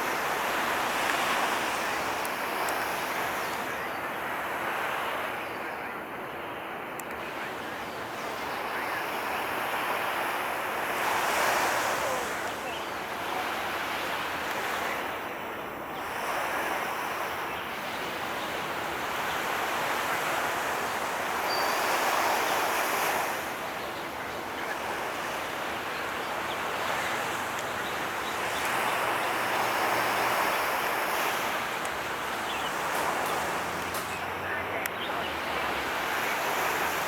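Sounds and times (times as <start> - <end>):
waves washing against shore: 0.0 - 5.4, 7.2 - 37.0.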